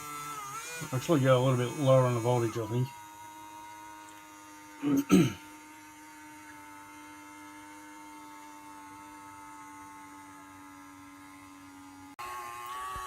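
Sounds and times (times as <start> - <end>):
electric motor humming and whining: 0.0 - 13.0.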